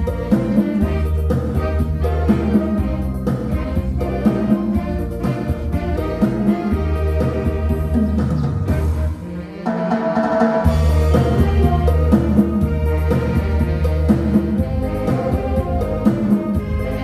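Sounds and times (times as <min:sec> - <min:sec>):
bass line: 0:00.0 - 0:09.5, 0:10.6 - 0:17.0
drum kit beat: 0:00.0 - 0:17.0
orchestral pop music: 0:00.0 - 0:17.0.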